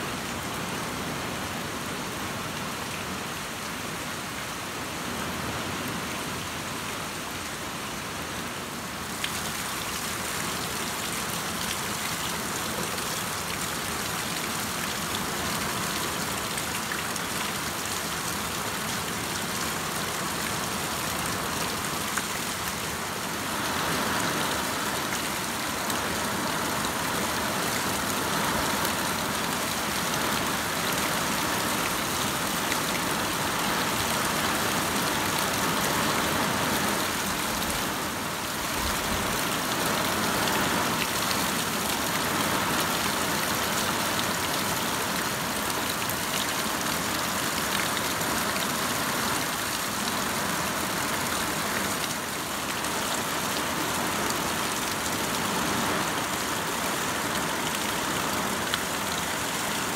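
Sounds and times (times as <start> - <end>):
heavy rain falling: 0.0 - 59.9
water streaming off roof: 5.4 - 59.9.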